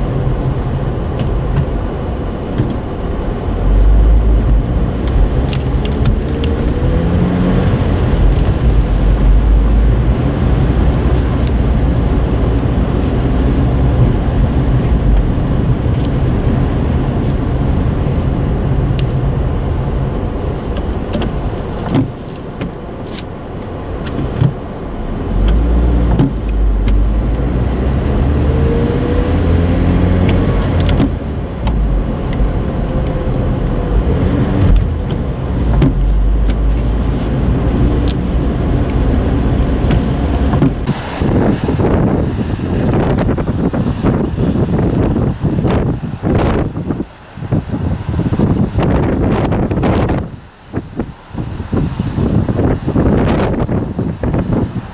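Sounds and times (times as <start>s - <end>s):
car engine driving: 0.0s - 54.9s
road rumble: 0.0s - 54.9s.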